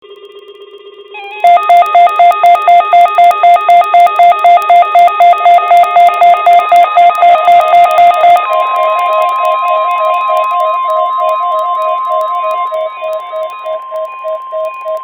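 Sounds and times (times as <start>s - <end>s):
steady warning alarm tone: 1.4s - 15.0s
two-pitch electronic alert beeping: 1.4s - 15.0s.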